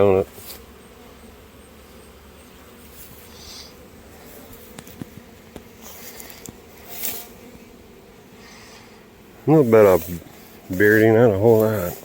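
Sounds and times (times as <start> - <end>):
bees buzzing around a hive: 0.0 - 12.0.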